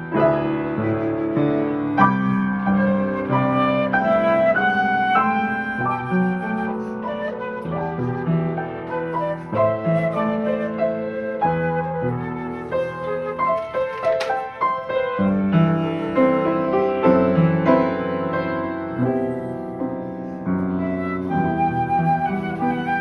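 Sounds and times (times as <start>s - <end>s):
piano and flute music: 0.0s - 23.0s.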